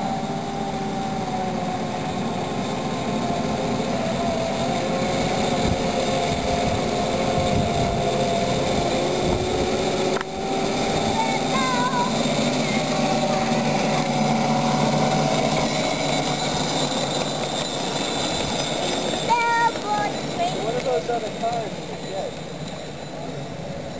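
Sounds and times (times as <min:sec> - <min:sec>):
ride-on train mechanical hum: 0:00.0 - 0:23.9
track noise: 0:00.0 - 0:23.9.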